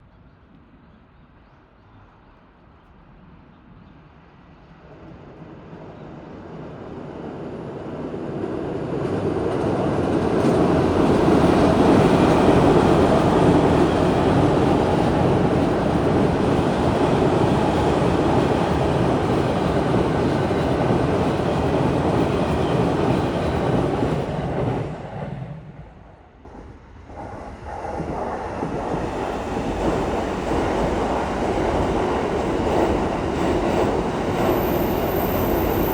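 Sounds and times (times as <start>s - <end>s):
train rumble and wheel clatter: 2.8s - 35.9s.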